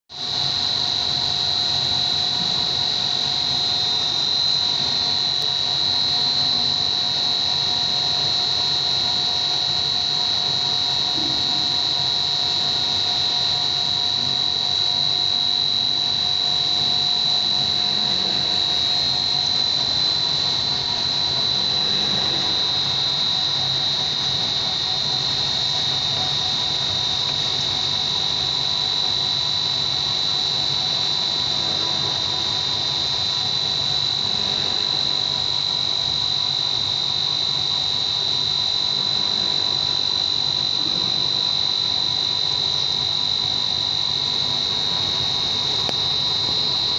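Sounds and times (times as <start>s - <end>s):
extruder machine whining: 0.1s - 46.9s.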